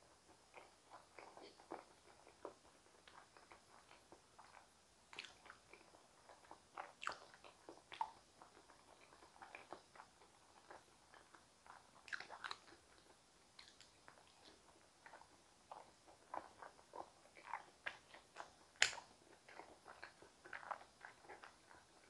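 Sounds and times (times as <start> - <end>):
person chewing with mouth clicks: 0.1 - 22.0.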